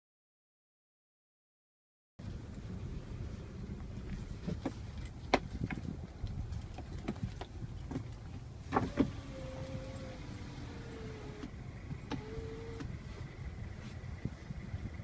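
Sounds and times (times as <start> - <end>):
car engine low rumble: 2.2 - 15.0.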